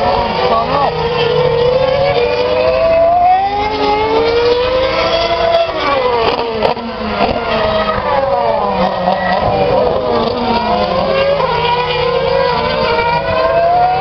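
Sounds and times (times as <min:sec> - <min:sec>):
racing car engines revving: 0:00.0 - 0:14.0
racing car passing close: 0:00.0 - 0:14.0.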